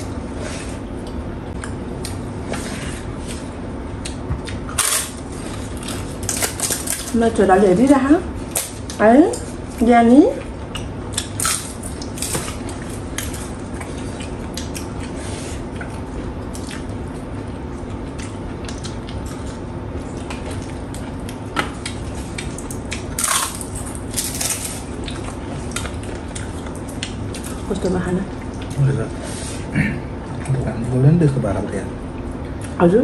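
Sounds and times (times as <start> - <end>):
steady low hum: 0.0 - 33.0
chewing and crunching food: 0.1 - 29.2.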